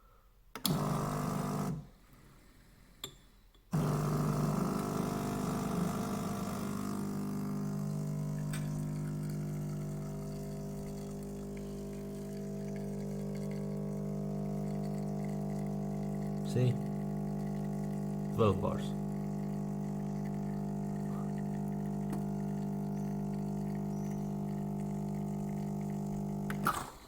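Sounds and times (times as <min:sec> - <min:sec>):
espresso machine pump buzzing: 0:00.6 - 0:01.9, 0:03.7 - 0:27.0.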